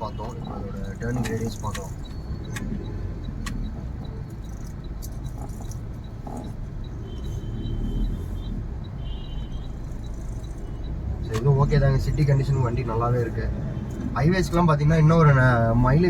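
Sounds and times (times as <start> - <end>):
fast regular ticking: 0.0 - 15.1
diesel engine and road rumble: 0.0 - 16.0.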